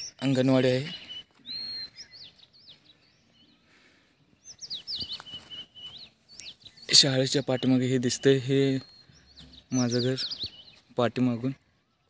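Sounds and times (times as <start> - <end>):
small birds whistling: 0.0 - 12.0.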